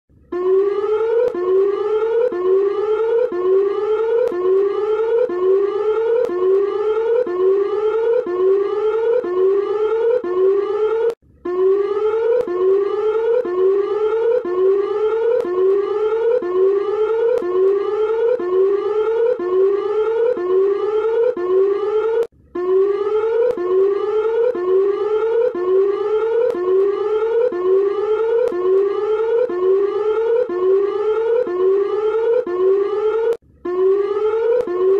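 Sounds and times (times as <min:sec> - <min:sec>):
rising whooping alarm tone: 0:00.3 - 0:34.9.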